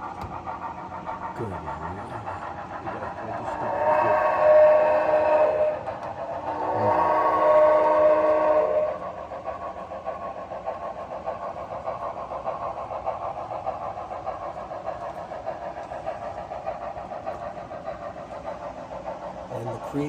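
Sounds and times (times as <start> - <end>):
model train rhythmic running: 0.0 - 20.0.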